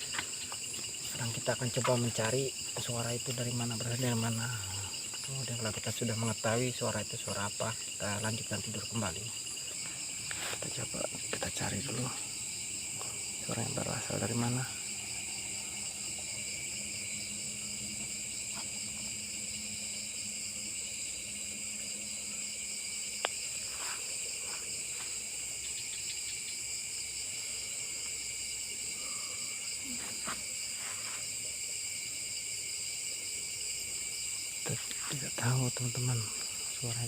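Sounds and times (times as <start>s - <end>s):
crickets and insects trilling: 0.0s - 37.0s.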